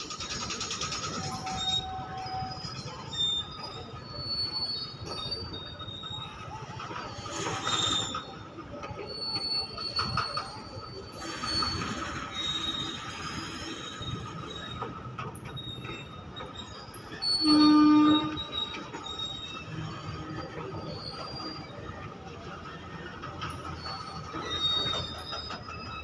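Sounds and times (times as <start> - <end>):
freight train rumbling past: 0.0 - 26.0
train wheels squealing: 0.0 - 26.0.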